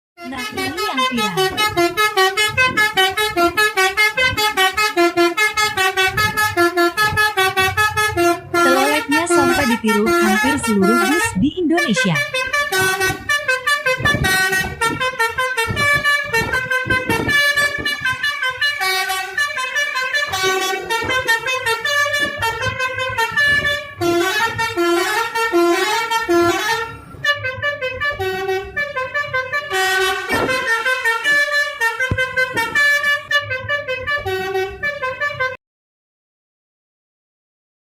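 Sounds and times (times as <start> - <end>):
musical vehicle horn tune: 0.2 - 35.6.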